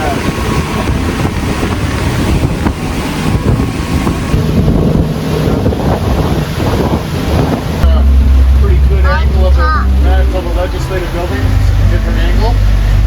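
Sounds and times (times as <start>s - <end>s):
boat motor running: 0.0s - 13.0s
water rushing past hull: 0.0s - 13.0s
wind buffeting microphone: 0.0s - 13.0s.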